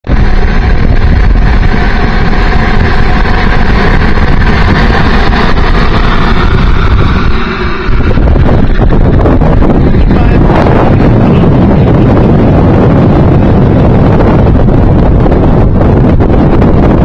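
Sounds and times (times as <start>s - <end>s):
model jet turbines whining: 0.0s - 17.0s.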